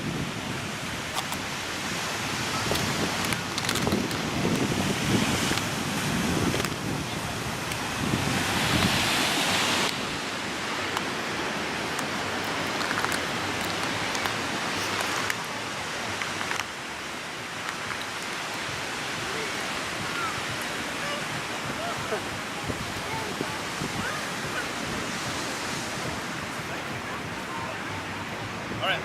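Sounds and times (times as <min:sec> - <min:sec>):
ocean surf rushing: 0:00.0 - 0:29.0
wind on microphone: 0:00.0 - 0:29.0.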